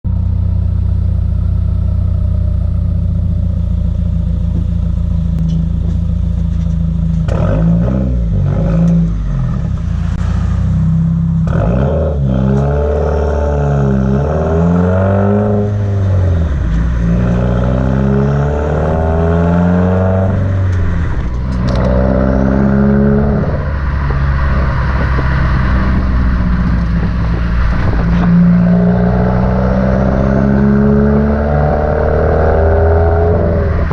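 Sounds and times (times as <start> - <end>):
car engine idling and revving: 0.0 - 33.9
exhaust crackles: 0.1 - 33.9.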